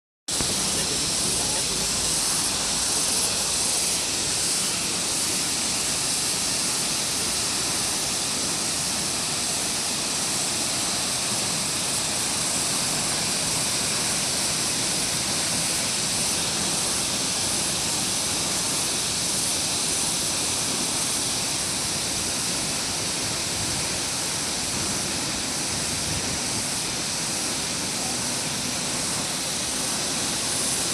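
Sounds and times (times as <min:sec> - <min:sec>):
waterfall rushing: 0:00.3 - 0:30.9.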